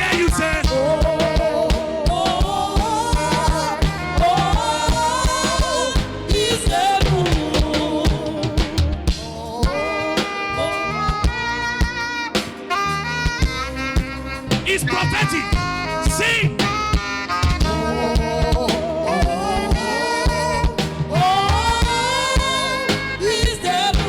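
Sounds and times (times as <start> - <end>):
person singing: 0.0 - 12.3, 14.4 - 24.0
drum kit: 0.0 - 24.0
held instrument chords: 0.0 - 24.0.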